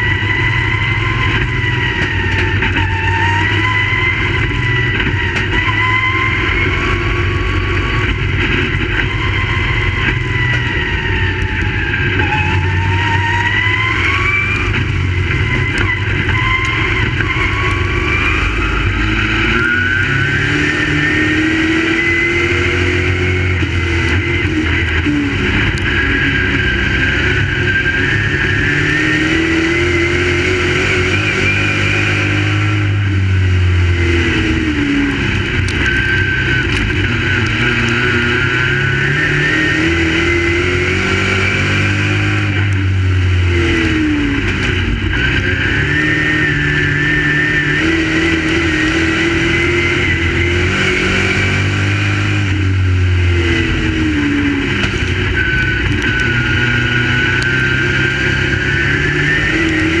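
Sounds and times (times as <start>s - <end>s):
race car engines: 0.0s - 60.0s.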